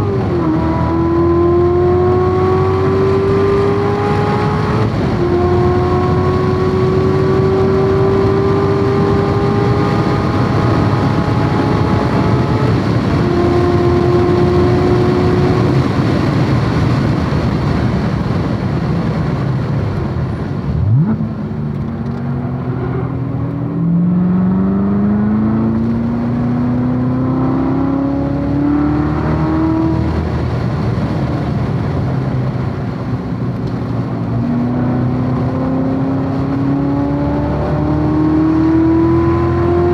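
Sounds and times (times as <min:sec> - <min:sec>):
car engine revving high: 0:00.0 - 0:39.9
wind and road noise: 0:00.0 - 0:39.9.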